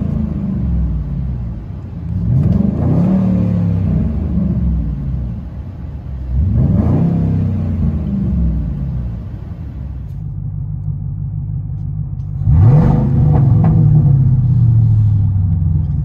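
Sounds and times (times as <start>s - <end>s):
supercharged engine revving: 0.0s - 10.0s, 12.3s - 15.2s.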